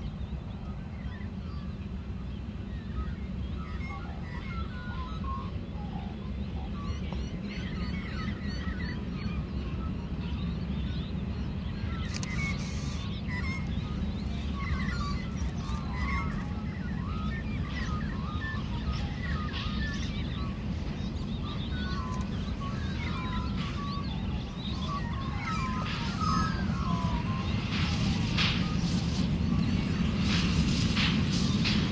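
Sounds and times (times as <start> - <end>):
distant steam locomotive rumble: 0.0 - 31.9
birds chirping and squawking: 3.0 - 9.5, 10.4 - 31.9.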